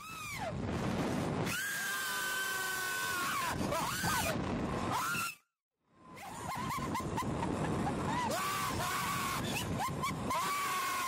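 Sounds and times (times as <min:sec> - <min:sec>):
wind rushing over microphone: 0:00.0 - 0:05.3, 0:06.0 - 0:11.0.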